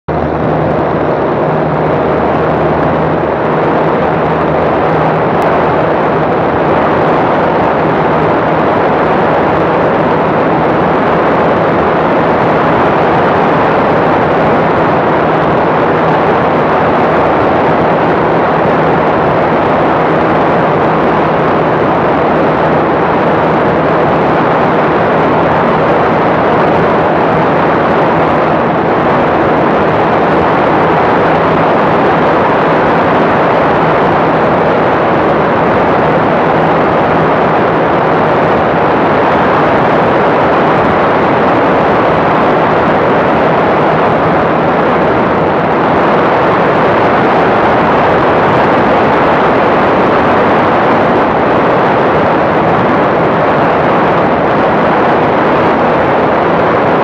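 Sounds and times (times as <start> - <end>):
airplane engine drone: 0.0 - 57.0
wind rushing over camera: 0.0 - 57.0.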